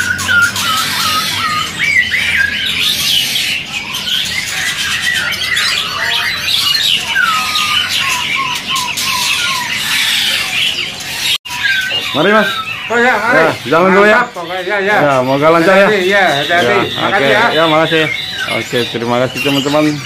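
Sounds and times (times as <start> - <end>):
songbirds chattering: 0.0 - 20.0.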